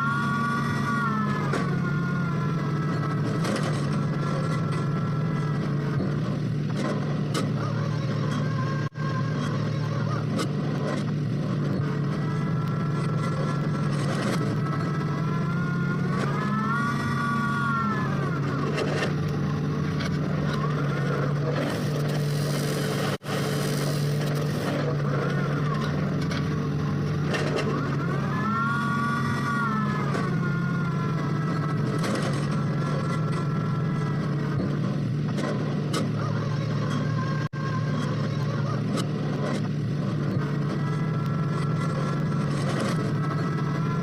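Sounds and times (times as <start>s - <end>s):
drilling machine engine running: 0.0s - 44.0s.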